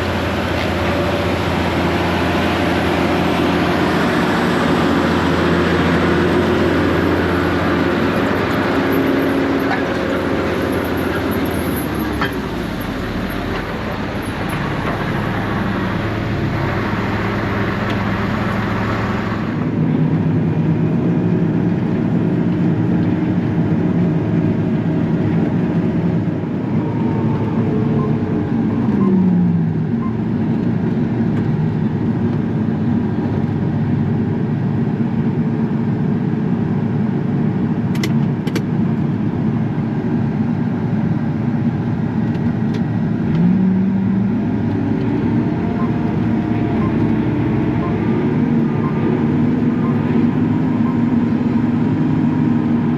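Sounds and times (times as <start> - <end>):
large diesel engine under load: 0.0 - 52.9.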